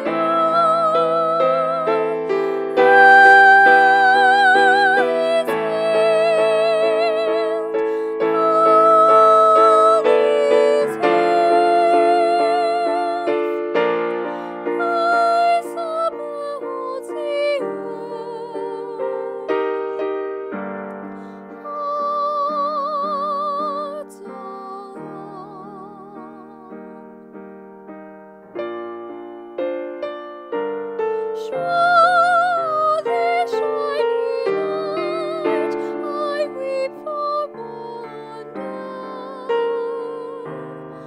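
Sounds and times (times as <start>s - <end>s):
woman singing with vibrato: 0.0s - 13.6s, 14.4s - 20.0s, 21.4s - 27.1s, 31.3s - 41.0s
piano accompaniment: 0.0s - 41.0s.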